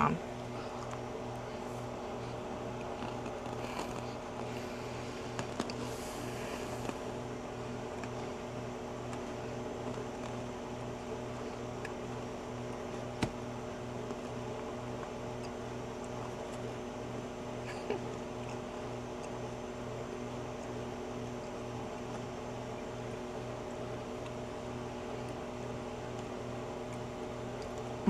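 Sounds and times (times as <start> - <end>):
freeze dryer humming: 0.0 - 28.0.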